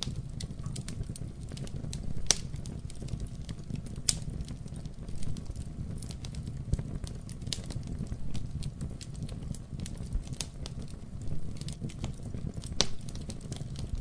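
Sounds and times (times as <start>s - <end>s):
low rumble of flames: 0.0s - 14.0s
wood fire popping and snapping: 0.0s - 14.0s.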